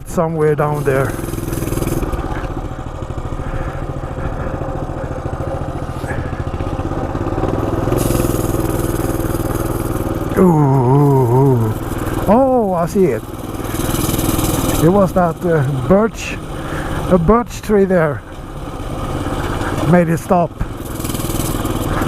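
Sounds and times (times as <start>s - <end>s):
mini bike engine running: 0.0s - 22.0s.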